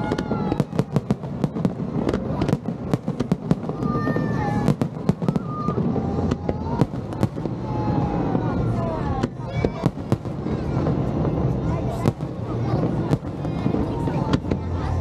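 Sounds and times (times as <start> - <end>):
fireworks bangs: 0.0 - 15.0
fireworks crackling pops: 0.0 - 15.0.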